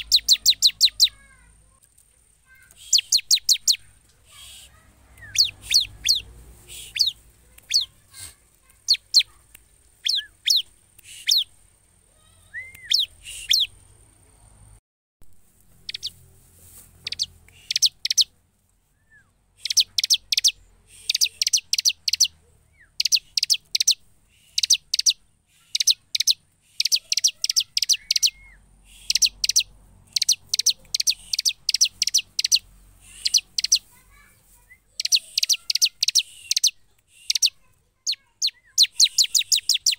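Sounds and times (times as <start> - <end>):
bird chirping: 0.0 - 14.8, 15.6 - 39.9.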